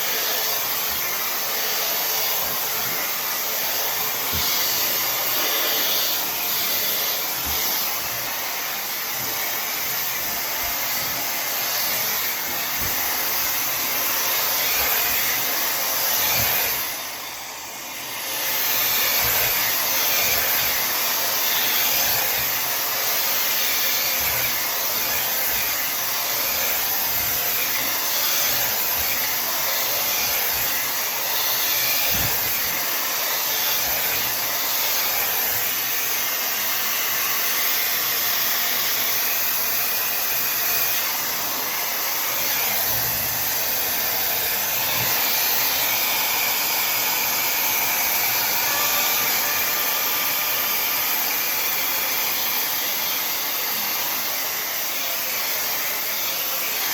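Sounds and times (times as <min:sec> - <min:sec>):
hair dryer blowing air: 0:00.0 - 0:56.9.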